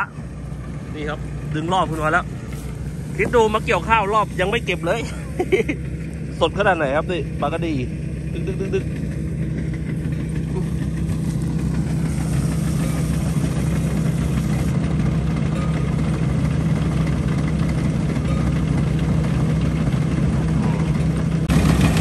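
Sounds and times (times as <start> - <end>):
combine harvester engine droning: 0.0 - 22.0.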